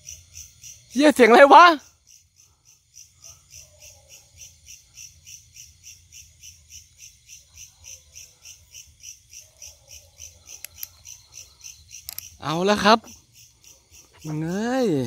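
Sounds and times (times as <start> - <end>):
night insect pulsing call: 0.0 - 15.0.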